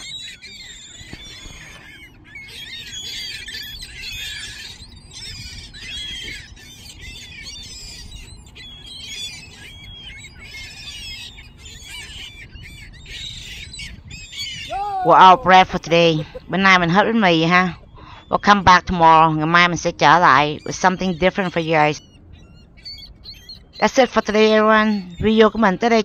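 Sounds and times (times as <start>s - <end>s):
gulls calling: 0.0s - 26.0s.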